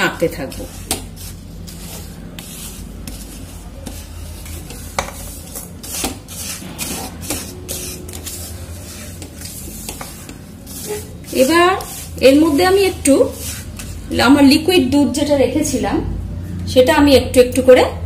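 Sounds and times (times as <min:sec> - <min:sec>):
spatula scraping a pan: 0:00.0 - 0:14.7.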